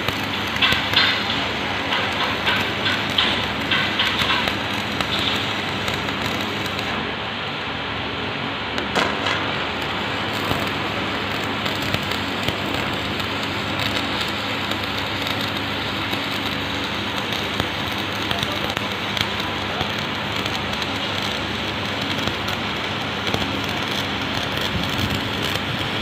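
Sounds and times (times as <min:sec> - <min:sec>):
welding arc crackling: 0:00.0 - 0:26.0.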